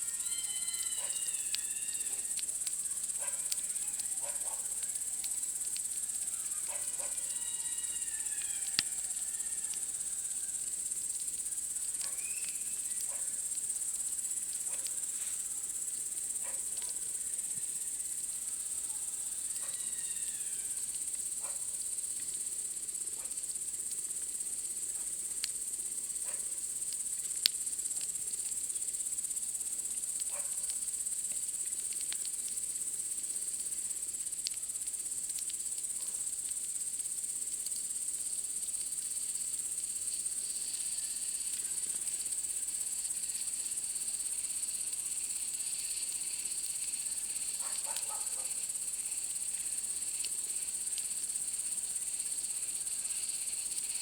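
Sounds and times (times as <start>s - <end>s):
insects chirring: 0.0s - 54.0s
campfire crackling and popping: 0.1s - 18.6s, 19.3s - 52.6s.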